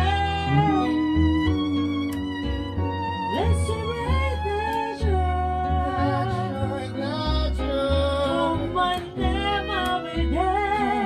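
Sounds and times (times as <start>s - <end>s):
melody line: 0.0s - 11.0s
piano: 0.0s - 11.0s
upright double bass: 0.0s - 11.0s.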